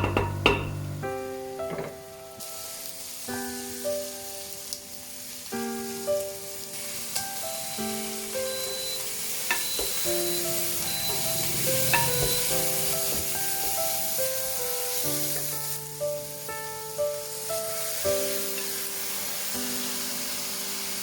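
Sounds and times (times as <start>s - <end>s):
meat sizzling in oil: 0.7s - 21.0s.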